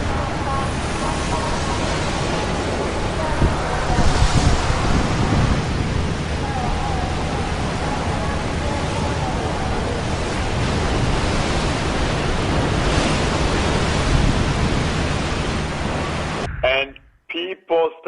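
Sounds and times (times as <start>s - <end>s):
floodwater rushing: 0.0s - 16.8s.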